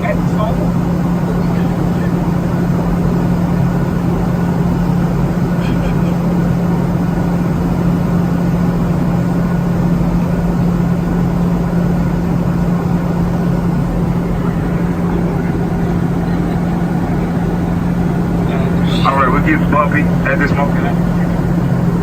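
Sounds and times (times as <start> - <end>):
airliner cabin engine drone: 0.0 - 22.0
constant low hum: 0.0 - 22.0.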